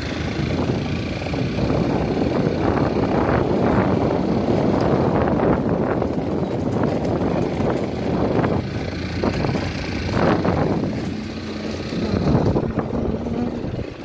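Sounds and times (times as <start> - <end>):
vehicle rushing along road: 0.0 - 14.0.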